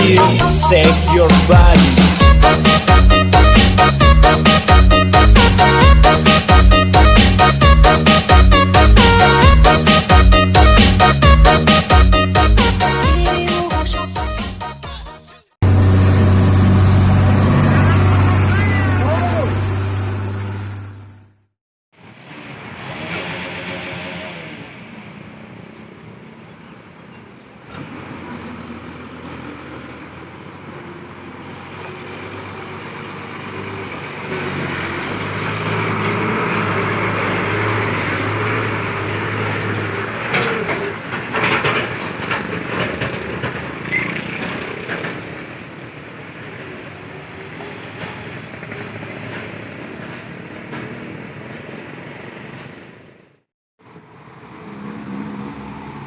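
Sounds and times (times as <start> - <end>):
heavy truck engine passing: 0.0 - 14.8, 15.6 - 21.4, 22.0 - 56.0
road traffic: 0.0 - 56.0.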